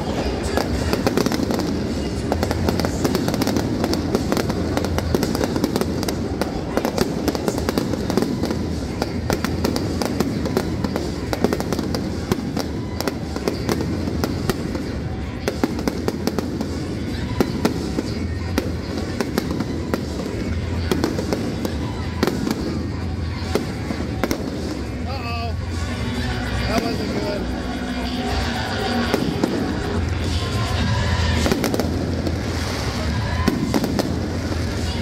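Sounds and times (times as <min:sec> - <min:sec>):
fireworks bangs and crackles: 0:00.0 - 0:35.0
music over loudspeaker: 0:00.0 - 0:35.0.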